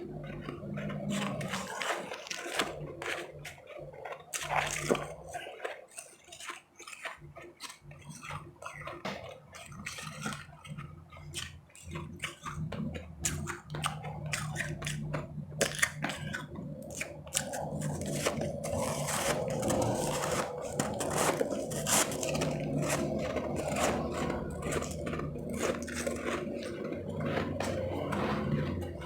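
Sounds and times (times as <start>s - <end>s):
chewing crunchy ice chips: 0.0s - 29.0s.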